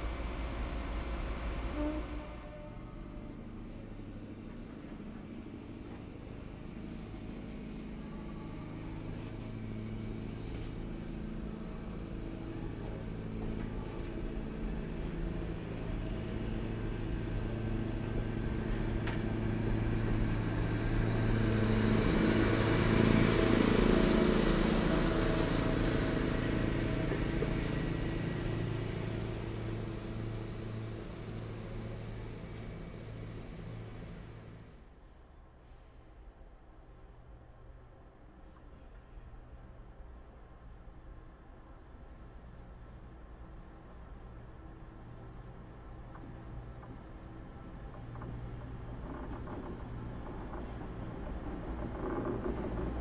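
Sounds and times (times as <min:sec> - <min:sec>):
diesel locomotive passing: 0:00.0 - 0:53.0.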